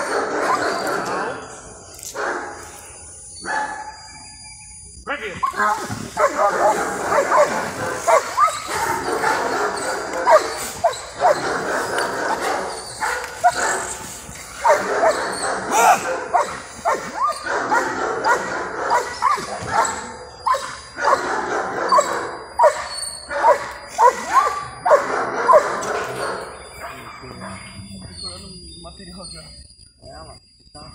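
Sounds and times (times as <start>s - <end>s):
dog barking: 0.0s - 1.4s, 2.1s - 2.7s, 3.4s - 4.1s, 5.4s - 27.8s.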